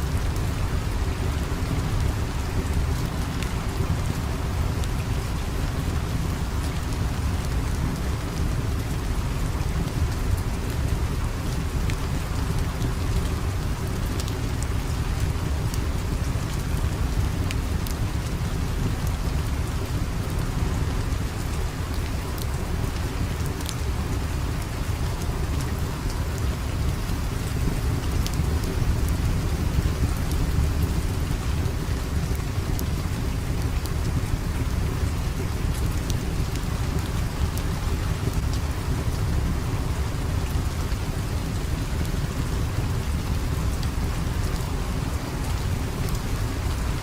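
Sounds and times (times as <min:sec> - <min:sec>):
heavy rain: 0:00.0 - 0:47.0.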